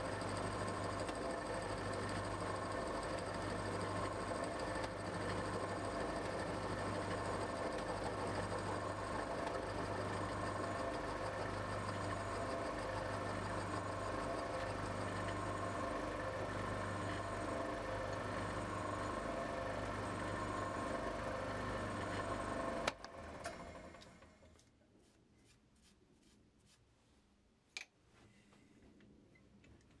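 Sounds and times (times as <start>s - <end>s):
milling machine motor hum: 0.0s - 24.4s.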